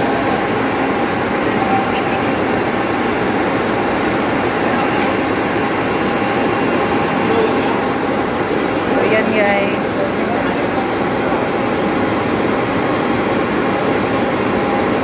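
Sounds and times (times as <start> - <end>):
electric water pump running: 0.0 - 15.0.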